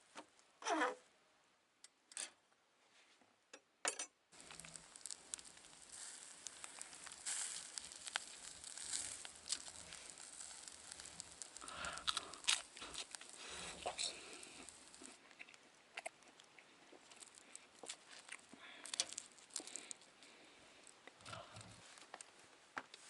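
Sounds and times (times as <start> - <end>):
wood fire crackling: 4.3 - 23.0
rustling: 4.4 - 23.0.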